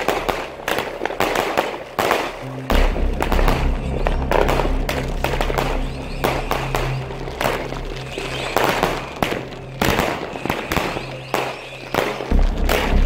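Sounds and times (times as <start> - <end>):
fireworks launching and bursting: 0.0 - 13.0.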